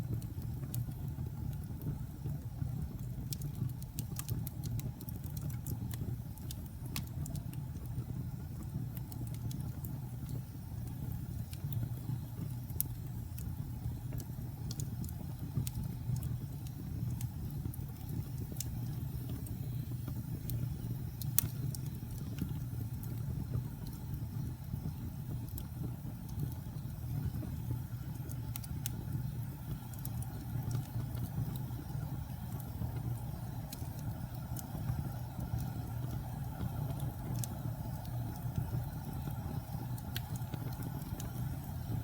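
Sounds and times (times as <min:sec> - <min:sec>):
fire crackling in fireplace: 0:00.0 - 0:42.0
fire pops and snaps: 0:00.0 - 0:42.0.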